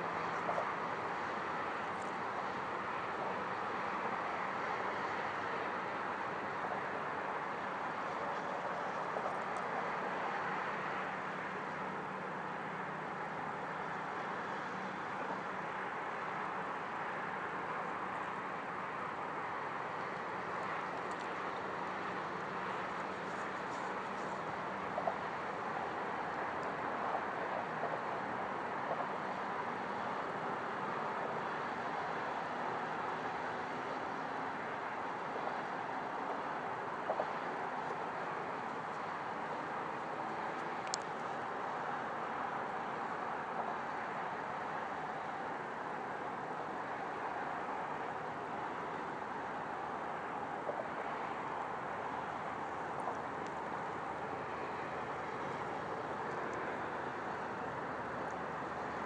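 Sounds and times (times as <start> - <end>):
outdoor background hiss: 0.0 - 59.0
steady rushing noise: 0.0 - 59.0.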